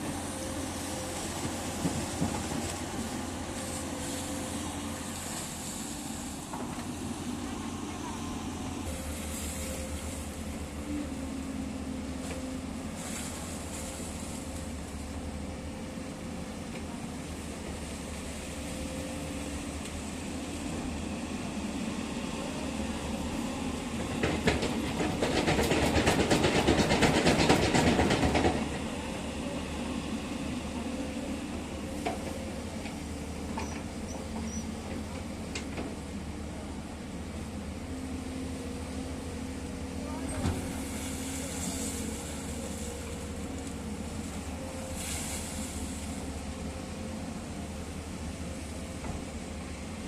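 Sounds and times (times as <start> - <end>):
excavator diesel engines running: 0.0 - 50.0.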